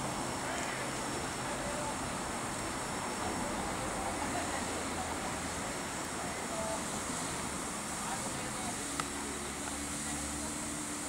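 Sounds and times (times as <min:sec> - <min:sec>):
faint voices: 0:00.0 - 0:11.0
steam locomotive hissing: 0:00.0 - 0:11.0.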